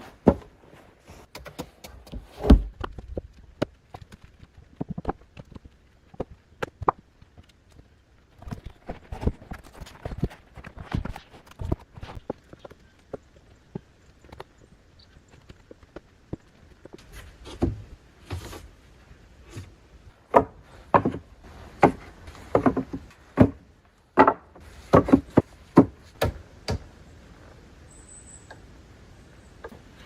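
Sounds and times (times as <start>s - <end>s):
knocks of wood being worked: 0.1s - 0.6s, 1.2s - 14.6s, 15.3s - 18.7s, 19.5s - 27.0s.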